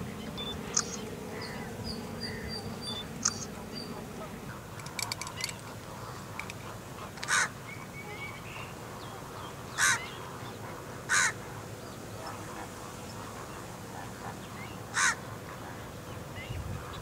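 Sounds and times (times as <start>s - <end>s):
bird calling: 0.0s - 4.1s, 4.8s - 17.0s
faint outdoor background: 0.0s - 17.0s.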